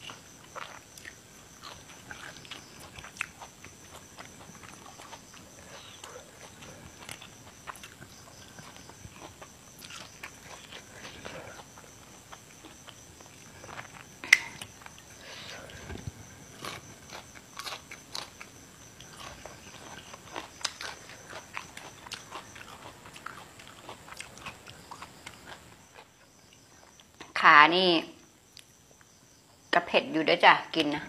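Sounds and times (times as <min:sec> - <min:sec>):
chewing leafy vegetables: 0:00.0 - 0:27.4.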